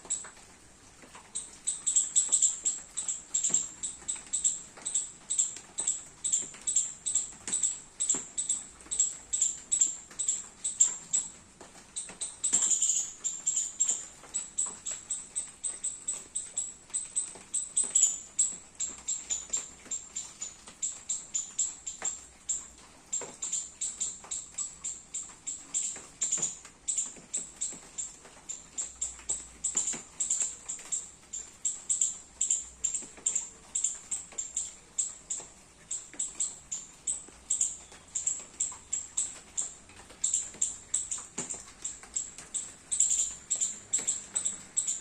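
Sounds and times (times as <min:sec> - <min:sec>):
squirrel chirping: 0:00.0 - 0:00.4, 0:01.2 - 0:45.0.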